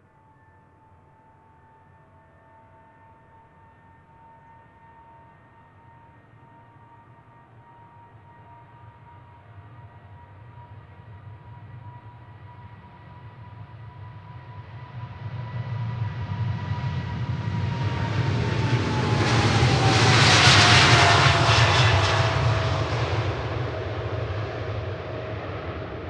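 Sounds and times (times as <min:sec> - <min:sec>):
jet engines at takeoff: 0:04.8 - 0:26.0.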